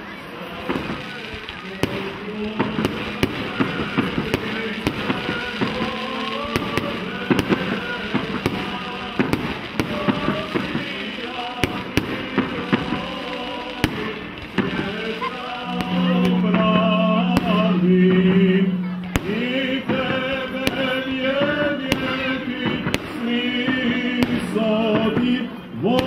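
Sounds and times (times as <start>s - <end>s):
music playing: 0.0s - 23.2s
fireworks bangs and crackles: 0.0s - 26.0s.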